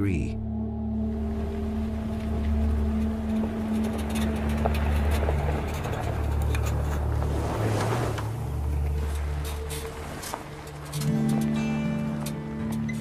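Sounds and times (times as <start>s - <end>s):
low rumble: 0.0s - 10.9s
droning music tone: 0.0s - 13.0s.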